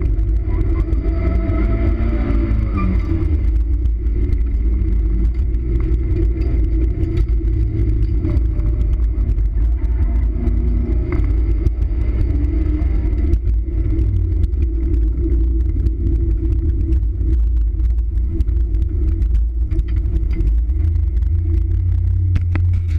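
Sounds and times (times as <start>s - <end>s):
car engine running: 0.0s - 22.9s
road and wind noise: 0.0s - 22.9s.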